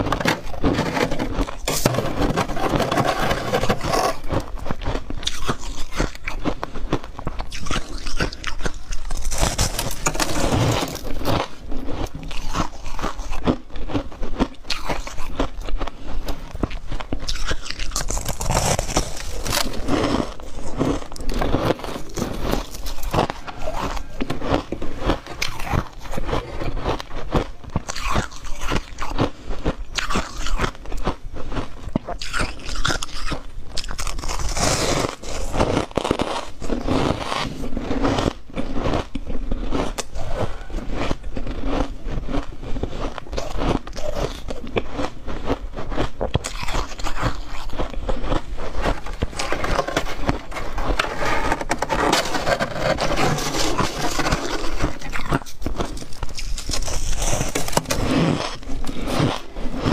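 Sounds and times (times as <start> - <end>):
crunching and chewing ice: 0.0 - 59.9.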